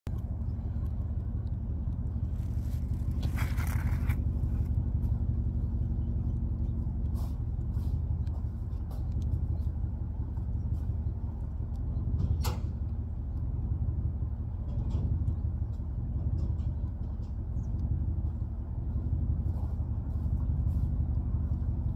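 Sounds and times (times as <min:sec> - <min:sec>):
truck engine idling: 0:00.1 - 0:21.9.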